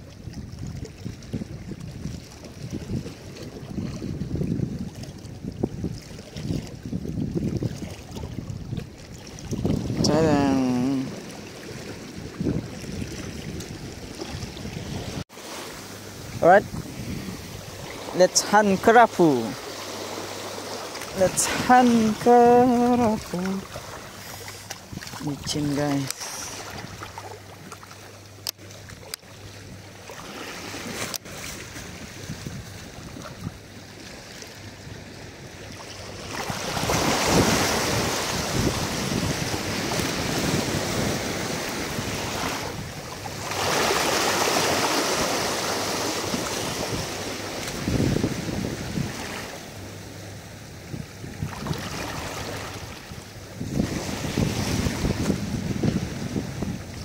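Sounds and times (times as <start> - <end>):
wind buffeting microphone: 0.0 - 15.2, 16.0 - 19.0, 19.6 - 27.6, 31.6 - 34.0, 34.7 - 57.0
sea water lapping: 0.0 - 57.0.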